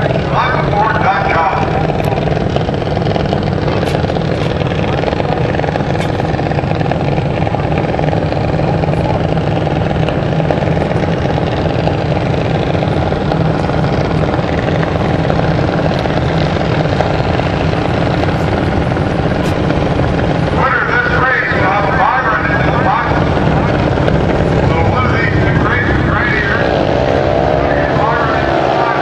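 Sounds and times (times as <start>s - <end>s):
small engines idling chugging: 0.0s - 29.0s.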